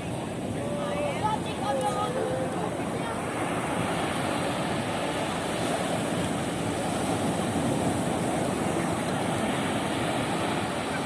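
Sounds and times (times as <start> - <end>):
surf breaking on a beach: 0.0 - 11.0.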